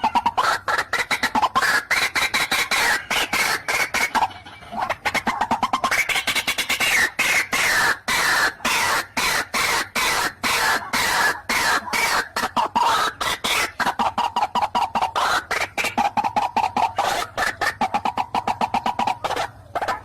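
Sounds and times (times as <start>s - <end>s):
waterhen calling harsh notes: 0.0s - 20.0s.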